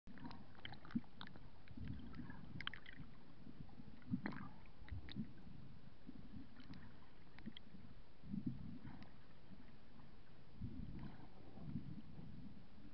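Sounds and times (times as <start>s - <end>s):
underwater low rumble: 0.1s - 12.9s.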